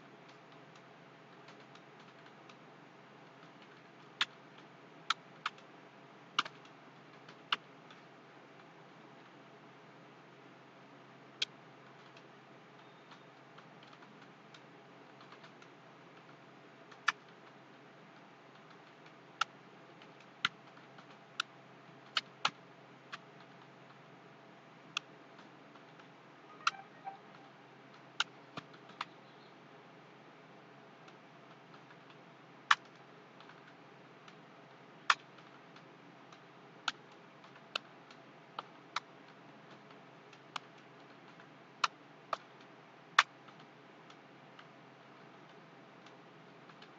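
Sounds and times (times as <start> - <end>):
steady low hiss: 0.0 - 46.9.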